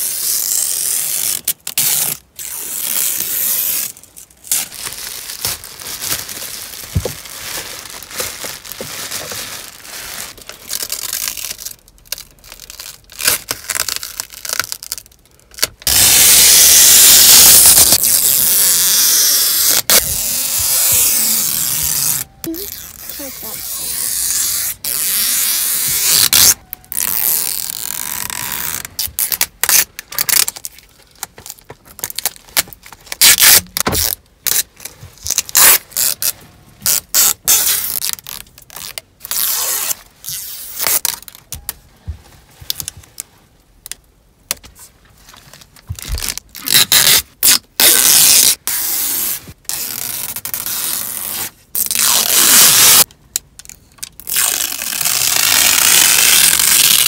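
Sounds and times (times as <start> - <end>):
plastic film ripping off: 0.0 - 41.8, 46.0 - 53.1, 54.2 - 57.0.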